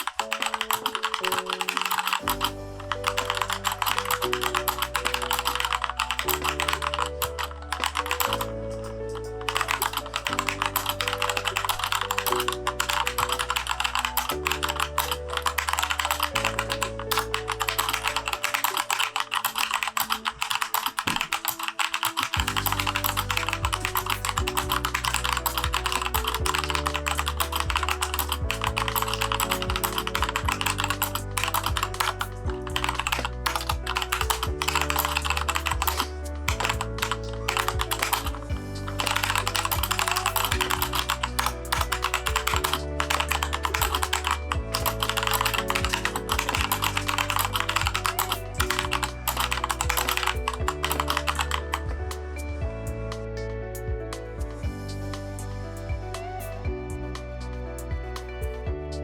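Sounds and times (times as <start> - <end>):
fast mechanical keyboard typing: 0.0 - 52.0
background music: 0.0 - 59.0.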